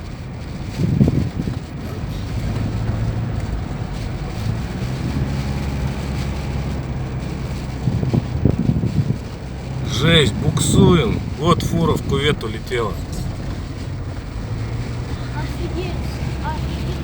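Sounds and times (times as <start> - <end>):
car engine running under load: 0.0 - 17.0
low wind noise: 0.0 - 17.0.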